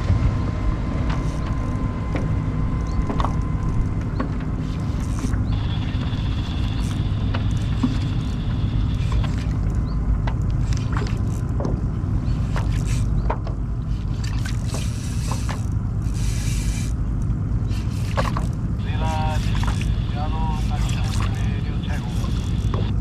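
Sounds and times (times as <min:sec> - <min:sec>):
wind and water rumble: 0:00.0 - 0:23.0.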